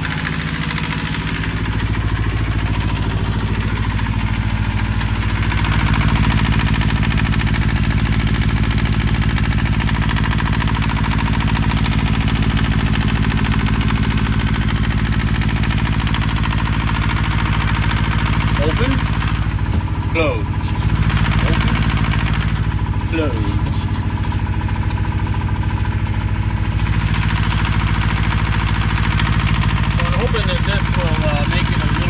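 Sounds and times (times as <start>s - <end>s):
boat engine idling: 0.0s - 32.0s.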